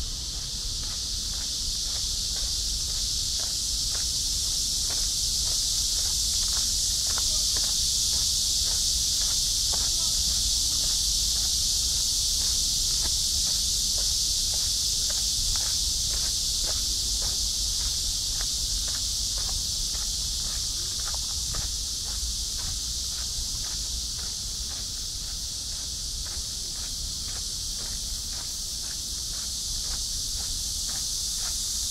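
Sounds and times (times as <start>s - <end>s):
high-pitched insect chorus: 0.0s - 31.9s
footsteps on path: 0.1s - 31.9s.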